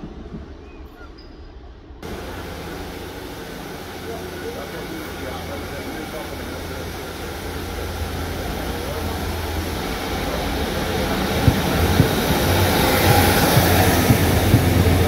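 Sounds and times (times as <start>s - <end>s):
train diesel engine hum: 2.0s - 15.0s
wheels clicking over rail joints: 2.1s - 15.0s.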